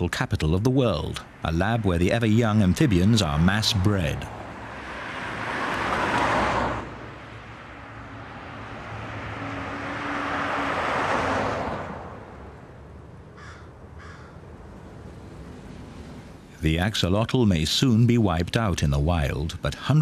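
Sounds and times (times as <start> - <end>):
cars passing by: 0.0 - 20.0.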